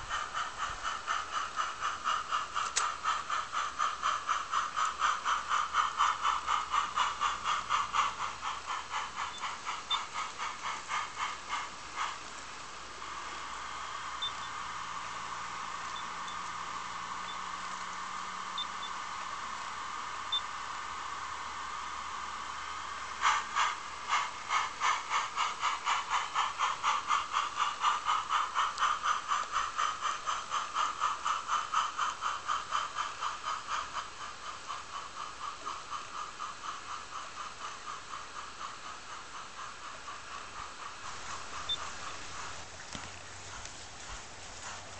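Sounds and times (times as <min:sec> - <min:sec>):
model steam locomotive hissing: 0:00.0 - 0:44.9
steam locomotive exhaust chuffs: 0:00.0 - 0:44.9.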